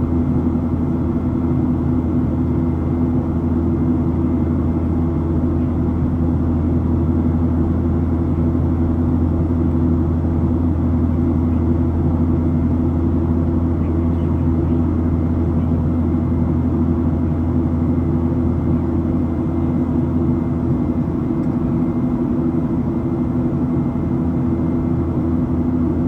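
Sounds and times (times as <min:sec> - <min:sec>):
jet engine cabin drone: 0:00.0 - 0:26.0.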